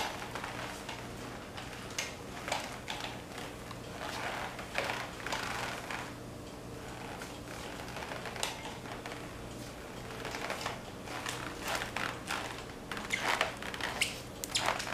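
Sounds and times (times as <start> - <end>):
string mop swishing on tile floor: 0.0 - 6.2, 6.8 - 14.9.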